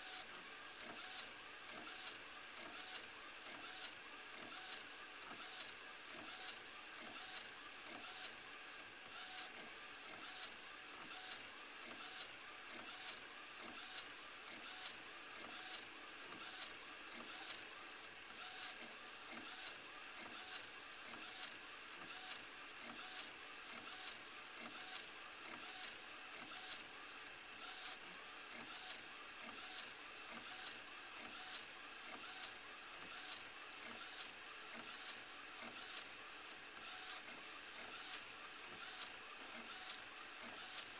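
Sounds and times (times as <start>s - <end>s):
printer steady whine: 0.0s - 40.9s.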